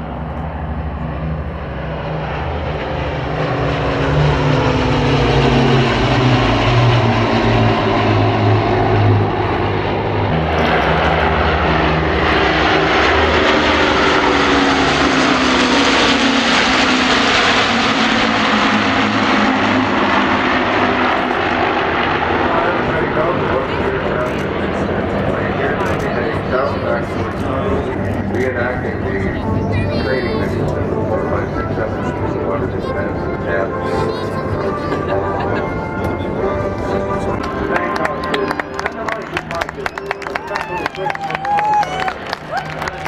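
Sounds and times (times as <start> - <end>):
propeller plane engines droning: 0.0 - 43.0.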